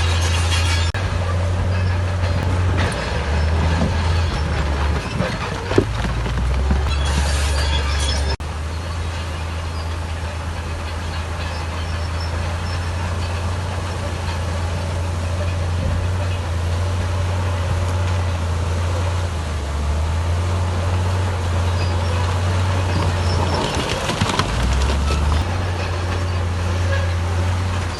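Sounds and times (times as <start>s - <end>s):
bulldozer diesel engine running: 0.0s - 27.9s.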